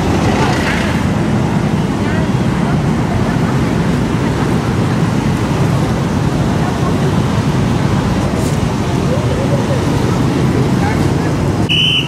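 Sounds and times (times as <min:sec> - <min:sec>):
cars passing: 0:00.0 - 0:12.0
motorbikes passing: 0:00.0 - 0:12.0
street traffic rumble: 0:00.0 - 0:12.0.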